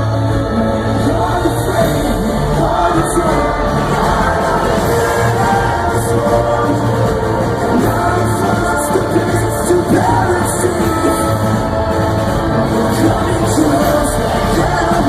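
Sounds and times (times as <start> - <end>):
crowd singing along: 0.0 - 15.0
live metal band playing: 0.0 - 15.0.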